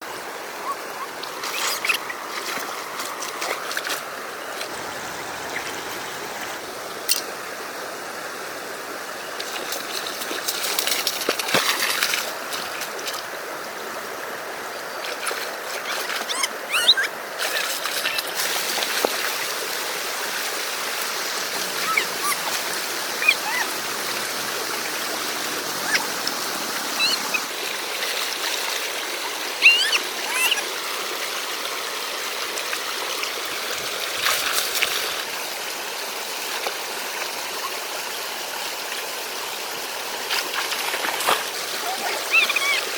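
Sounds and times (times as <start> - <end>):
river water rushing: 0.1 - 42.9
water splashes: 0.4 - 42.9.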